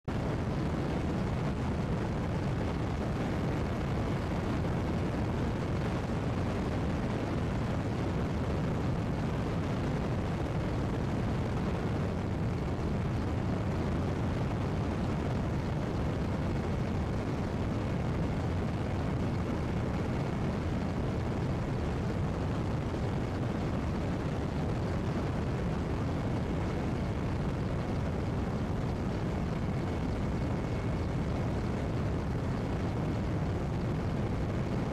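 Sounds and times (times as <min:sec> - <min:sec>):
faint high whine: 0:00.1 - 0:34.9
helicopter engines and rotor: 0:00.1 - 0:34.9.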